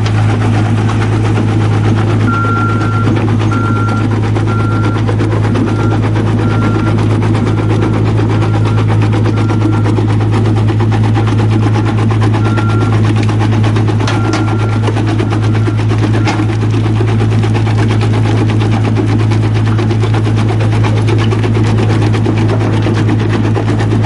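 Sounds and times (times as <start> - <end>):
deep machine hum: 0.0 - 24.0.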